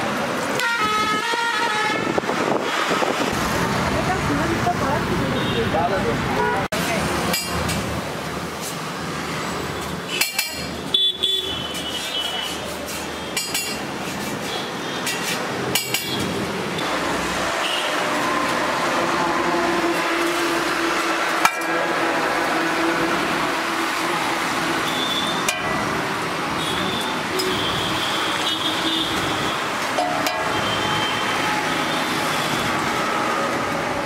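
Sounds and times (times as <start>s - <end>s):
roadside traffic noise: 0.0s - 34.0s.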